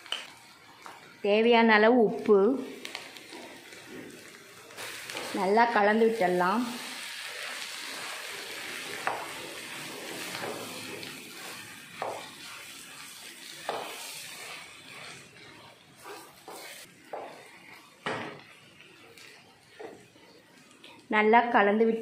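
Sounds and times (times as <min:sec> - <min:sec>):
hot oil sizzling: 0:00.0 - 0:21.3
spatula stirring in frying pan: 0:02.7 - 0:21.1.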